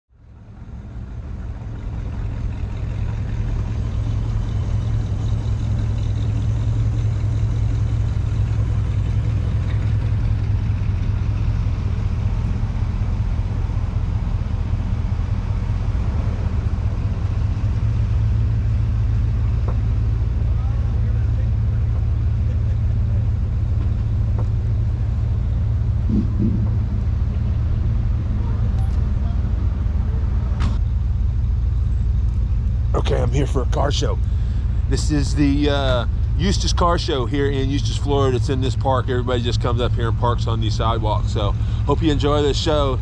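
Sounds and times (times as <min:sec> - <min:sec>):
car engine rumbling: 0:00.1 - 0:43.0.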